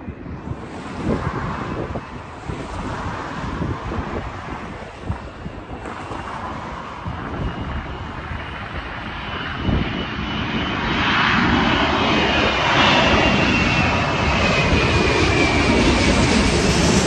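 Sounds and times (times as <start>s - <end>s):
high jet engine whine: 0.0s - 17.0s
jet engine roar: 0.0s - 17.0s.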